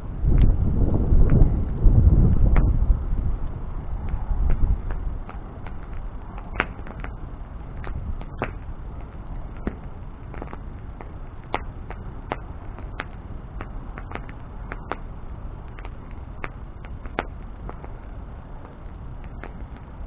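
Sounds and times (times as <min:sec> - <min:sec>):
bonfire crackling and popping: 0:00.0 - 0:20.0
low rush of flame: 0:00.0 - 0:20.0.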